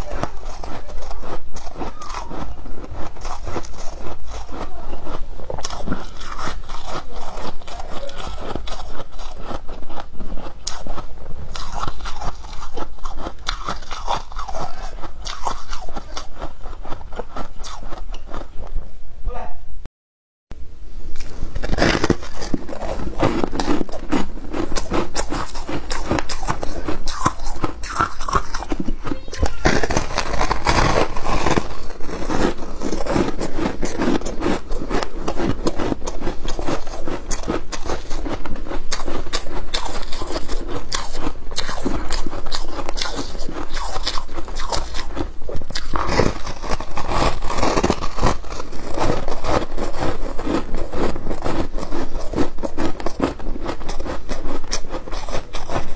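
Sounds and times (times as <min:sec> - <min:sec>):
ice being chewed: 0:00.0 - 0:18.8, 0:21.2 - 0:55.9.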